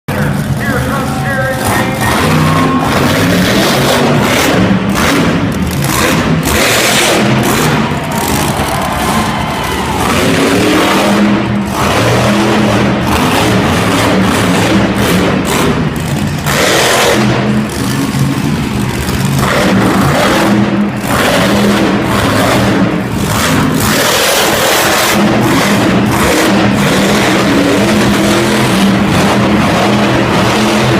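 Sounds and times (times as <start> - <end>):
engine revving hard: 0.1 - 30.9.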